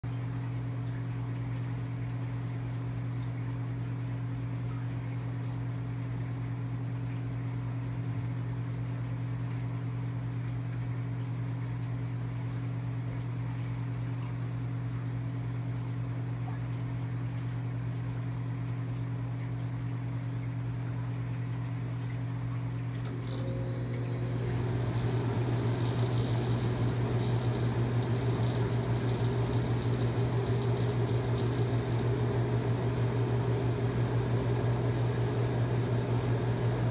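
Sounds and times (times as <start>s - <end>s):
aquarium pump humming: 0.0s - 36.9s.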